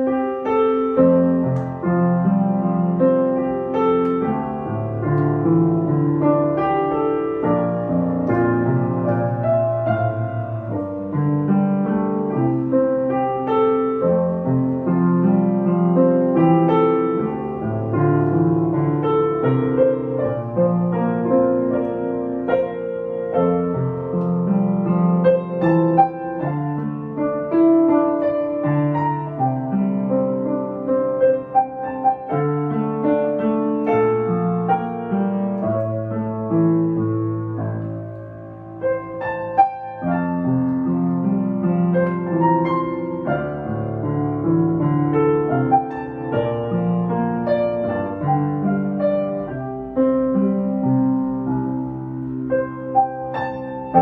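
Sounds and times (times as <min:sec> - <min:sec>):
upright piano playing: 0:00.0 - 0:54.0.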